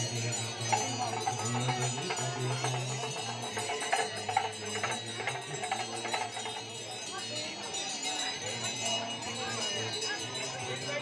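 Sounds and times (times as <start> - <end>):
crowd chatter: 0.0 - 11.0
small bells jingling: 0.0 - 11.0.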